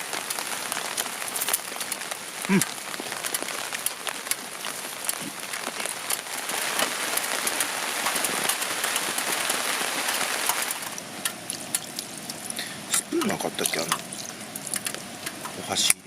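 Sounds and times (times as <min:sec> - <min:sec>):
rain on a nylon tarp: 0:00.0 - 0:16.0.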